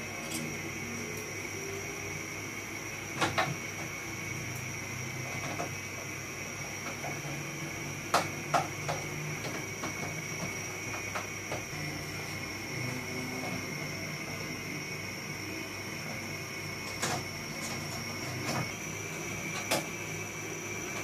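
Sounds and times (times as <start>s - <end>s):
steady high hum: 0.0s - 21.0s.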